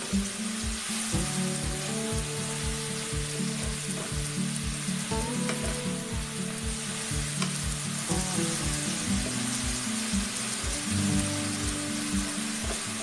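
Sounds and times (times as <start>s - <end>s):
background music with beat: 0.0s - 13.0s
vegetables sizzling in a wok: 0.0s - 13.0s.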